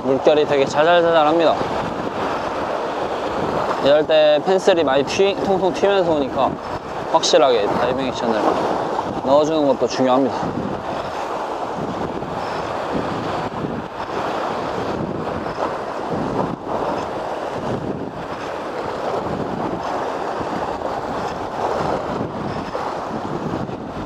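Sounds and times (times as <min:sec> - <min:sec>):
waves breaking on rocky shore: 0:00.0 - 0:24.0
wind buffeting microphone: 0:00.0 - 0:24.0.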